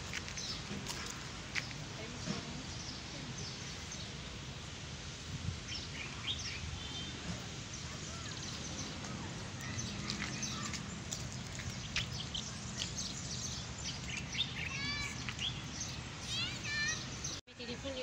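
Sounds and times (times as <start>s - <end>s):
small birds chirping: 0.1s - 4.6s, 5.6s - 18.0s.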